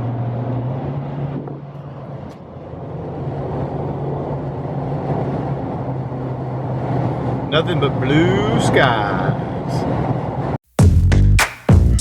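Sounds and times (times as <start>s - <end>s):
car engine and road hum: 0.0s - 10.6s.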